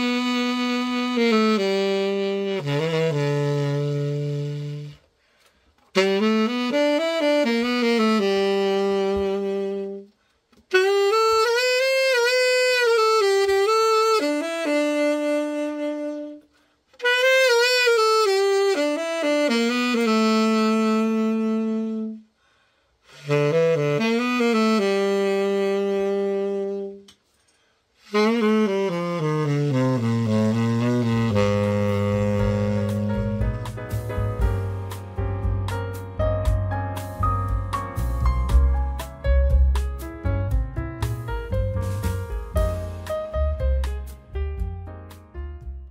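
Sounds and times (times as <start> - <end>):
solo tenor saxophone: 0.0 - 37.6, 41.4 - 43.7.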